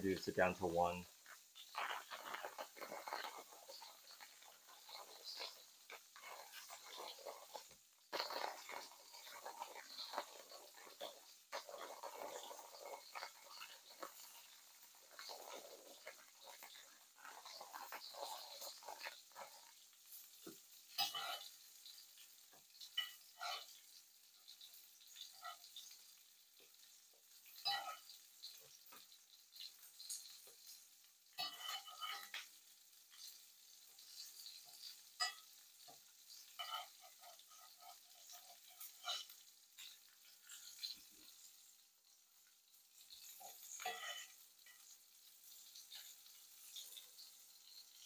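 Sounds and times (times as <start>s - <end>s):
pan sizzling: 0.0s - 48.0s.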